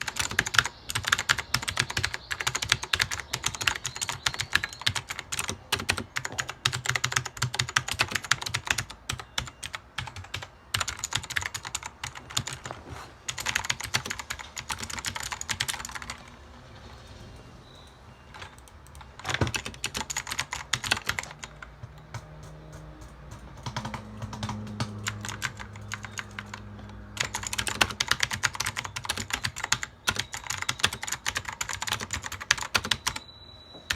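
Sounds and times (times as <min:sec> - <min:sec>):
rapid keyboard typing: 0:00.0 - 0:17.0, 0:18.3 - 0:33.3.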